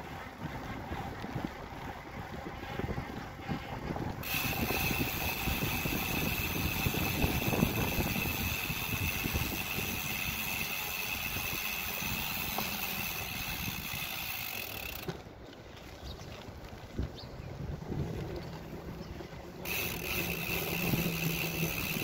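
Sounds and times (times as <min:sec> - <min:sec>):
bicycle tyres on paving stones: 0:00.0 - 0:22.0
bike rattling: 0:00.0 - 0:22.0.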